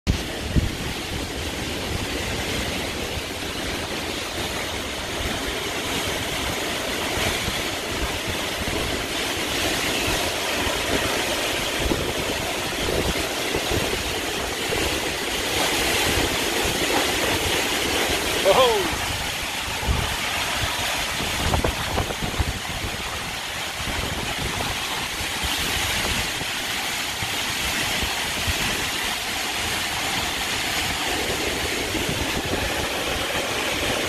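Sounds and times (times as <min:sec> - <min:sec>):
wind buffeting microphone: 0:00.1 - 0:34.0
wind rushing through trees: 0:00.1 - 0:34.0.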